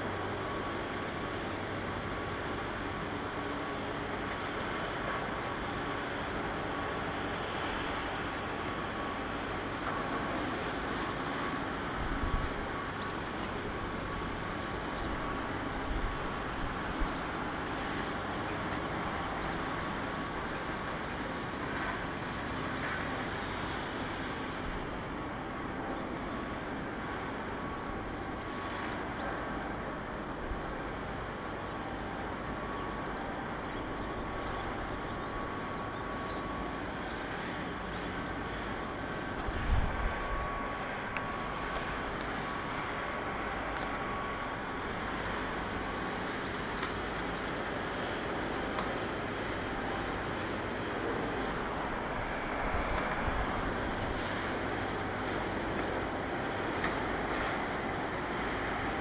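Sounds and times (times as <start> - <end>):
faint steady tone: 0.0 - 59.0
outdoor background noise: 0.0 - 59.0.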